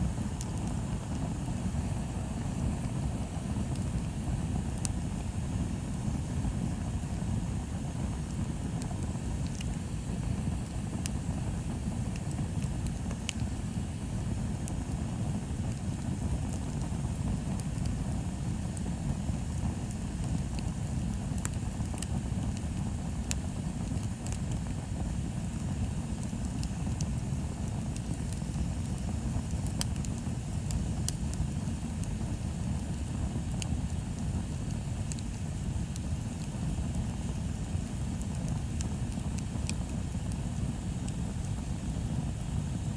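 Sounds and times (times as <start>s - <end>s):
bonfire rumbling: 0.0s - 42.9s
wood crackling and popping: 0.1s - 42.5s.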